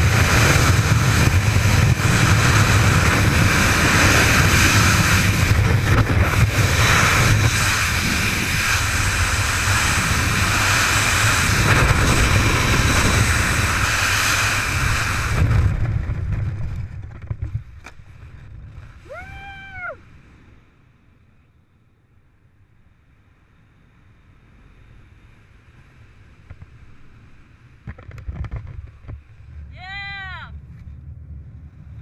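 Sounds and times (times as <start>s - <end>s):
loud wind rushing over camera: 0.0s - 20.8s, 23.5s - 32.0s.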